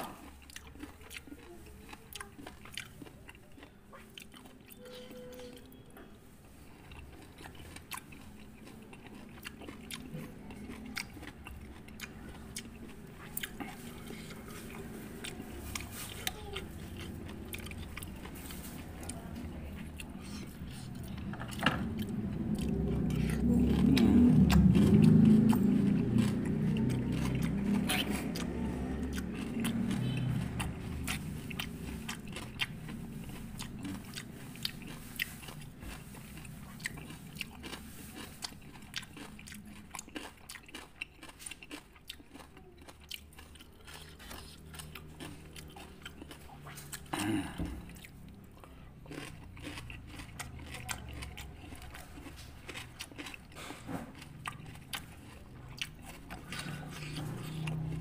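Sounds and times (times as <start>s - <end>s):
crunching and chewing fruit: 0.0s - 58.0s.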